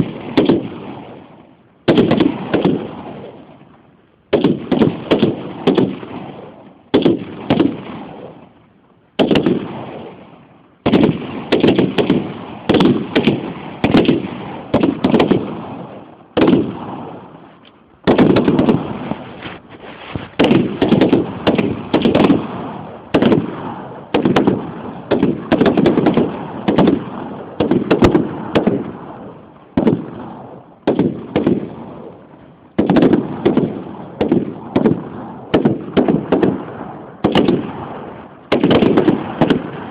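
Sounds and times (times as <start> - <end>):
rifles firing with echo: 0.0 - 39.9.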